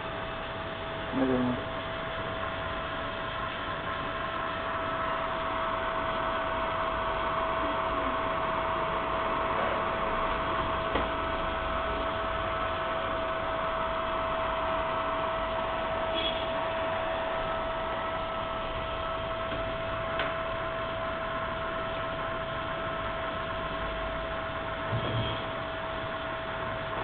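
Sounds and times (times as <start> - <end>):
servo drive electrical hum and whine: 0.0 - 27.0.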